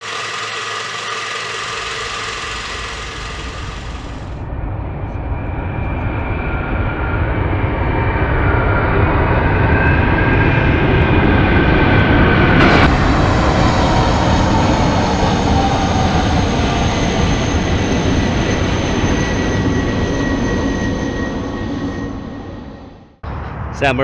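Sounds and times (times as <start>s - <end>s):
helicopter engine and rotor drone: 0.0s - 7.4s, 8.2s - 23.2s.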